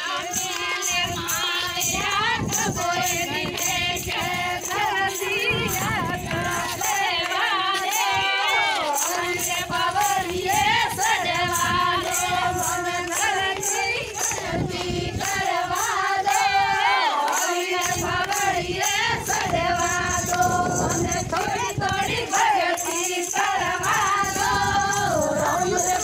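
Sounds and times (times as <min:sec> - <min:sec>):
jingling percussion beat: 0:00.0 - 0:26.0
woman singing devotional song: 0:00.0 - 0:26.0.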